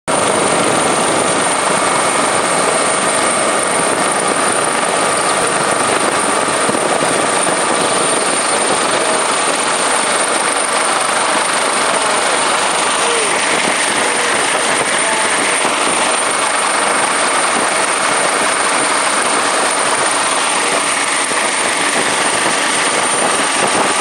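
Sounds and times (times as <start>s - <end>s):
helicopter engine and rotor: 0.1s - 24.0s
high whine: 0.1s - 24.0s.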